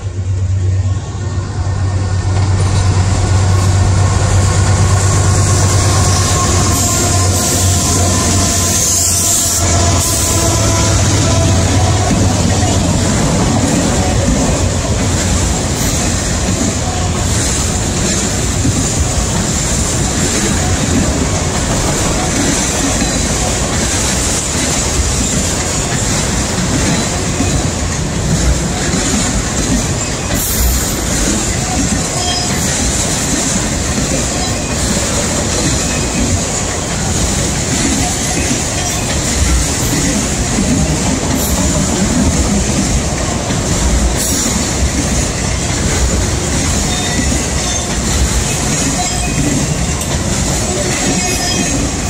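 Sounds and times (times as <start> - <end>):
steel wheels rumbling on rail: 0.0 - 52.0.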